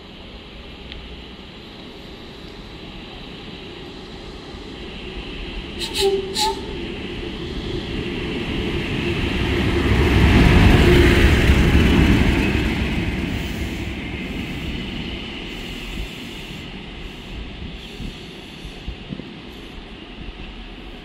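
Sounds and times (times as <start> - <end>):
diesel locomotive engine rumble: 0.0 - 21.0.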